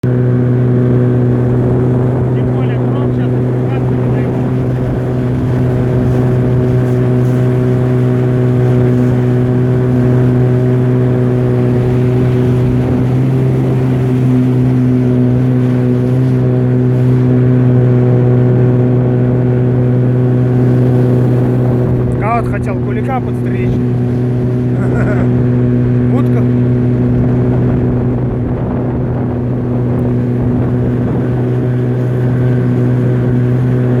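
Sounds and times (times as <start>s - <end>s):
boat motor humming: 0.0s - 34.0s.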